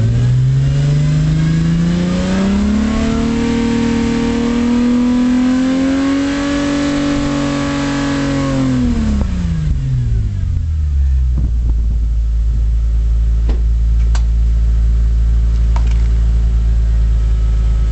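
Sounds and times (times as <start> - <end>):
car engine revving and idling: 0.0 - 17.9.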